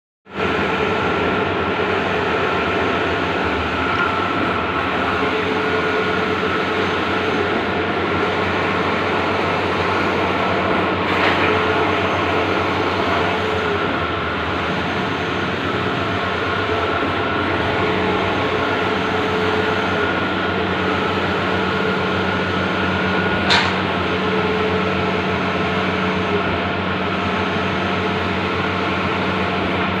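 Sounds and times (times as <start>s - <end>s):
printer mechanical hum with whine: 0.3s - 30.0s.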